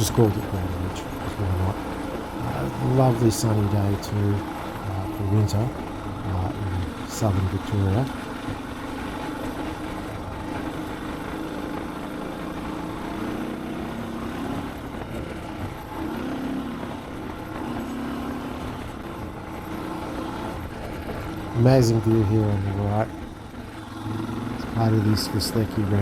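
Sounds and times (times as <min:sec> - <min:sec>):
motorcycle engine cruising: 0:00.0 - 0:26.0
riding noise: 0:00.0 - 0:26.0.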